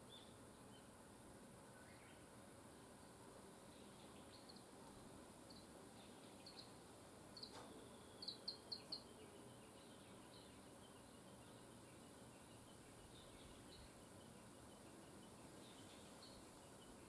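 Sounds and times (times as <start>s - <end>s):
small songbirds chirping: 0.0s - 17.0s
soft steady hiss: 0.0s - 17.0s.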